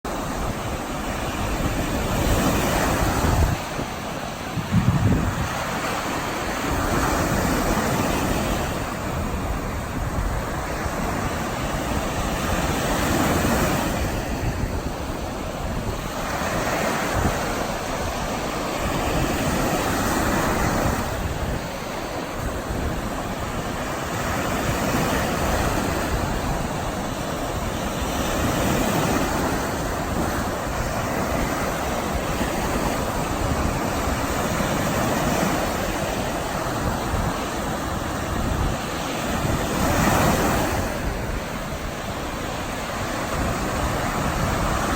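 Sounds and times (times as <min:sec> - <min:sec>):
waves breaking on beach: 0:00.1 - 0:44.9.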